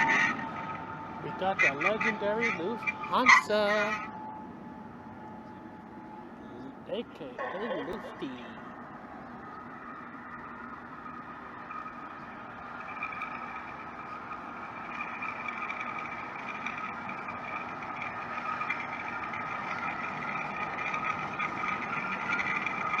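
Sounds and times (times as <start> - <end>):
jet engine whine and rush: 0.0 - 23.0.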